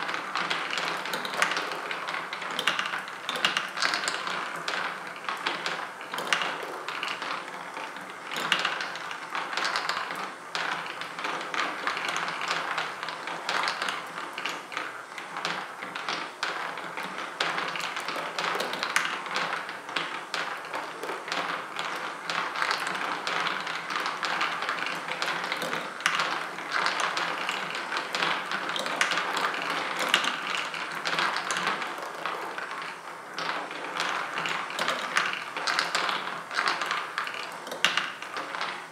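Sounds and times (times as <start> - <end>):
marbles rolling and clattering: 0.0 - 38.9.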